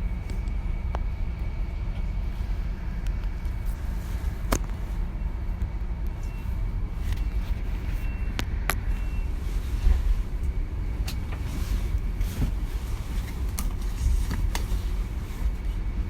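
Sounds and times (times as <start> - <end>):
train running rumble: 0.0 - 16.0.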